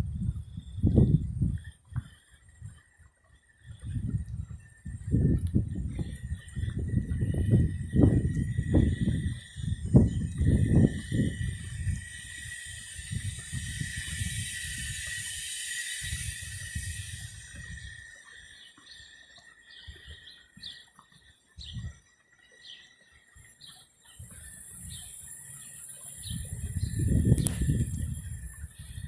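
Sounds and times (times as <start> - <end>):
wind buffeting microphone: 0.0 - 20.8, 21.6 - 22.1, 23.3 - 29.0
small bird chirping: 3.5 - 29.0.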